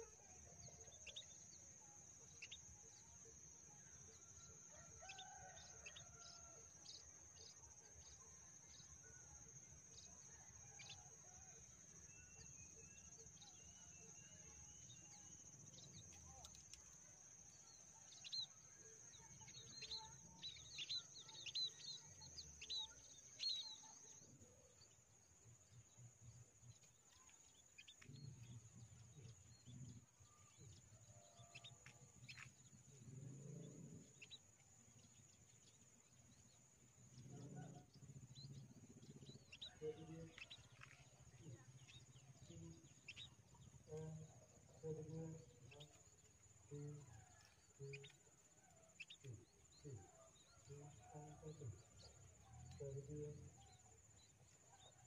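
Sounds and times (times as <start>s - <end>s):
small birds chirping: 0.0s - 1.7s, 12.0s - 55.0s.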